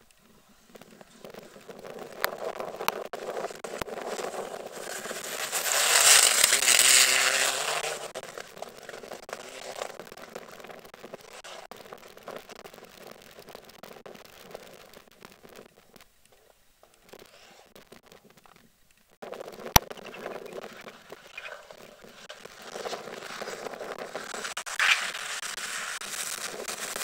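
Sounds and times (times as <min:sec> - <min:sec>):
gravel spraying under tyres: 0:00.0 - 0:27.0.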